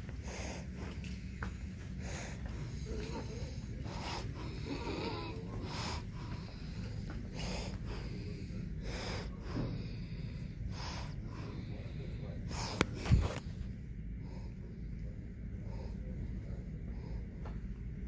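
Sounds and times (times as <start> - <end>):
person breathing: 0.0 - 17.8
low background rumble: 0.0 - 18.0.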